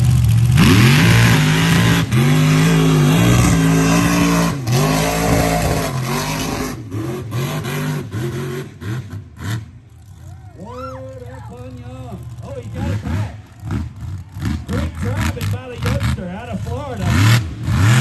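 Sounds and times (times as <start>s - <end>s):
truck engine revving: 0.0s - 10.2s, 11.6s - 18.0s.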